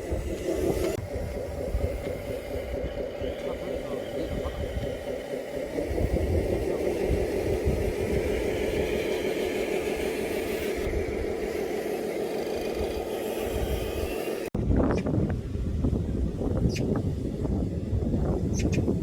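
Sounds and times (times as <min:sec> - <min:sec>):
model truck motor and gear drone: 0:00.0 - 0:19.0
wind on microphone: 0:00.0 - 0:19.0.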